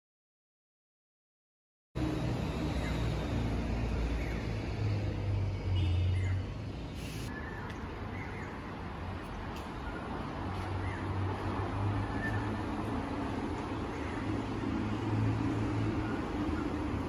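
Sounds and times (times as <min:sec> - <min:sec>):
rumble of car engines: 0:02.0 - 0:17.0.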